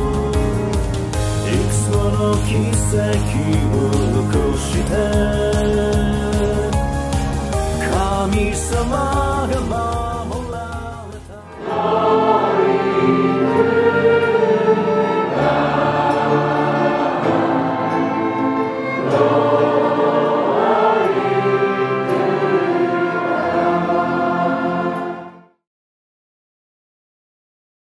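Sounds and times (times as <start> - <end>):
choir singing held chords: 0.0 - 25.6
musical backing: 0.0 - 25.6.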